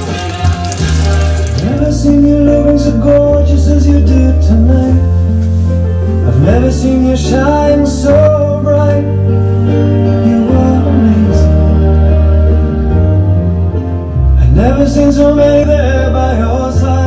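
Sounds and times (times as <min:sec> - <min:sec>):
song with sung melody: 0:00.0 - 0:17.0.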